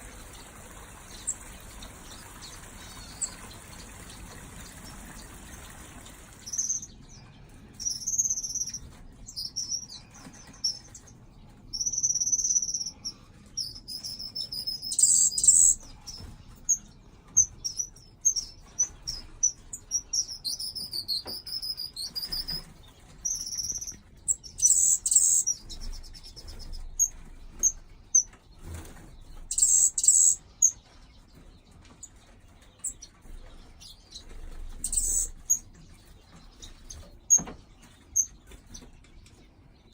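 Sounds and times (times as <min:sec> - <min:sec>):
finches chirping: 0:00.9 - 0:32.1, 0:32.8 - 0:39.9.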